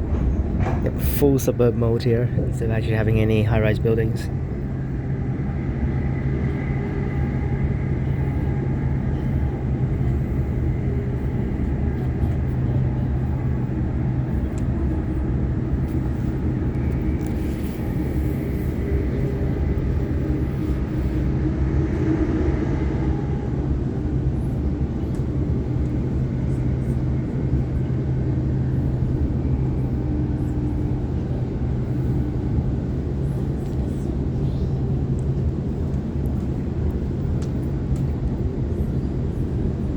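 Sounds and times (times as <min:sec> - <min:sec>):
constant train hum: 0:00.0 - 0:39.9
train rumbling at speed: 0:00.0 - 0:39.9.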